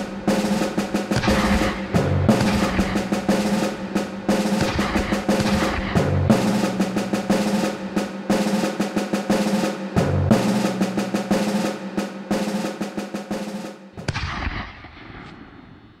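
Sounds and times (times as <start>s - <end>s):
snare drum rolls: 0.0s - 15.8s.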